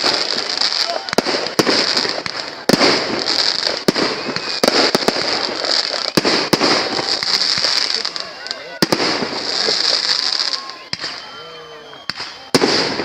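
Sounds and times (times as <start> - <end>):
fireworks shells bursting: 0.0 - 11.3
fireworks crackling hiss: 0.0 - 13.0.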